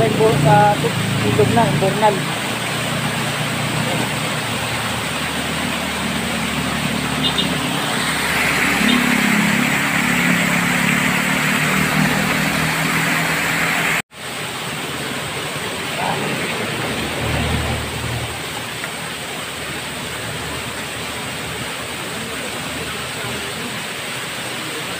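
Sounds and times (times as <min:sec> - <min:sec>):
small waterfall over rock: 0:00.0 - 0:24.9
water pouring over weir: 0:00.5 - 0:23.6.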